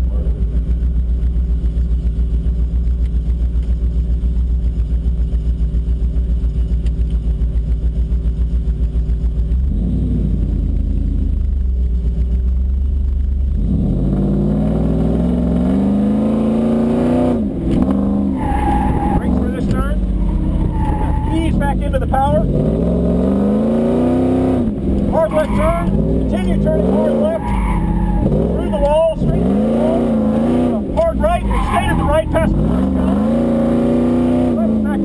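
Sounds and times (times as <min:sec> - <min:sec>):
car engine idling: 0:00.0 - 0:35.0
car engine revving: 0:00.0 - 0:35.0.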